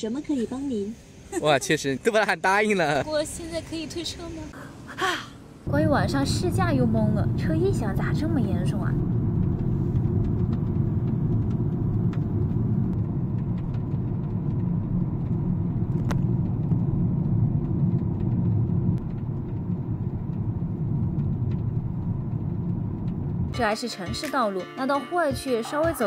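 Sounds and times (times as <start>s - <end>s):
road and engine rumble: 0.0s - 24.5s.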